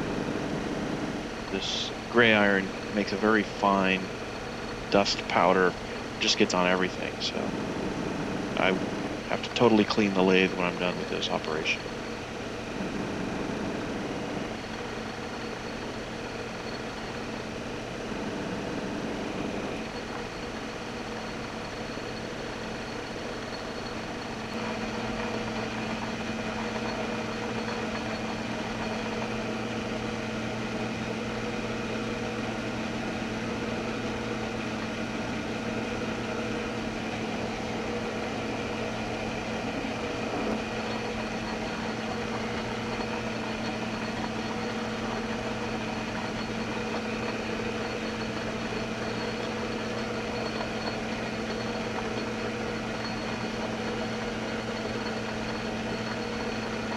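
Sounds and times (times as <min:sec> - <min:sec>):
metal lathe humming: 0:00.0 - 0:56.9.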